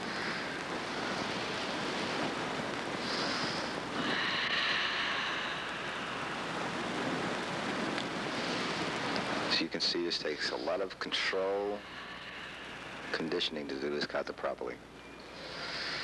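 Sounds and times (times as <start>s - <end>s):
forceful hissing breaths: 0.0s - 9.5s, 10.2s - 13.5s, 15.3s - 16.0s
steady background hiss: 0.0s - 16.0s.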